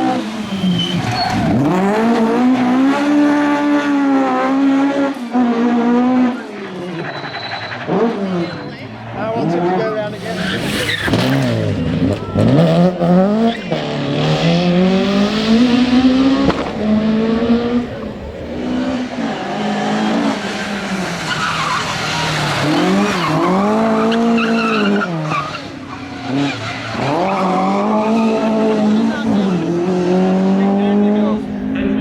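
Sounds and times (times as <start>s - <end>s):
tyres skidding: 0.0s - 3.9s, 5.7s - 32.0s
rally car engine revving: 0.0s - 32.0s.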